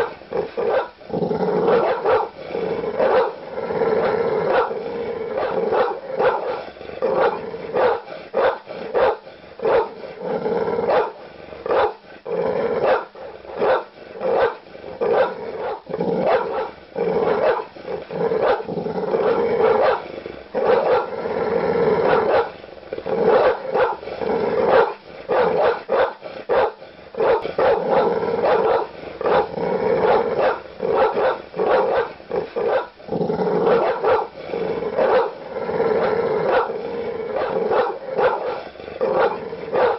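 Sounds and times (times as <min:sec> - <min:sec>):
large dog barking: 0:00.0 - 0:12.0, 0:12.6 - 0:21.2, 0:21.9 - 0:33.0, 0:33.6 - 0:39.9.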